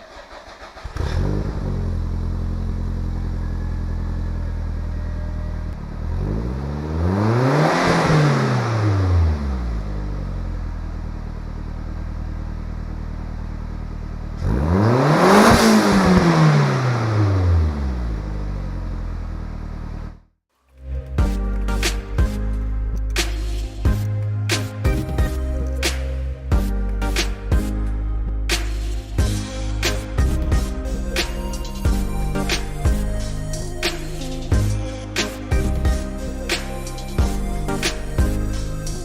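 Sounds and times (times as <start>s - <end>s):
car engine idling and revving: 0.0s - 20.3s, 21.7s - 39.0s.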